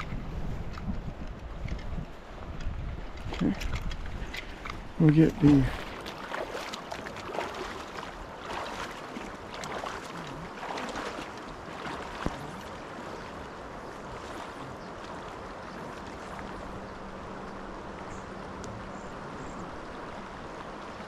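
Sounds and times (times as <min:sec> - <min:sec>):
boots sloshing through water: 0:01.4 - 0:21.0
river rushing: 0:03.3 - 0:21.0.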